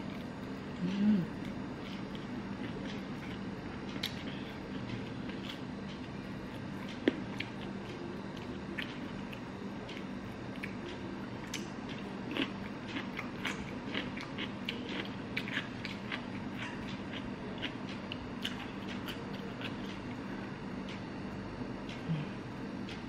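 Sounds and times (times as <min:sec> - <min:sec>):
crunchy chewing of cucumber: 0:00.0 - 0:23.0
steady low hum: 0:00.0 - 0:23.0.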